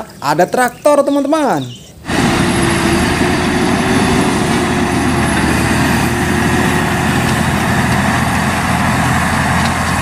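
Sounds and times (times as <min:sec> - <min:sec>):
tractor diesel engine: 0:01.6 - 0:10.0.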